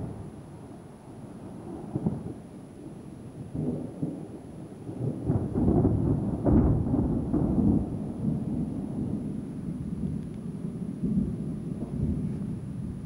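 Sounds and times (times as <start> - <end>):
rolling thunder: 0.0 - 0.5, 1.4 - 13.0.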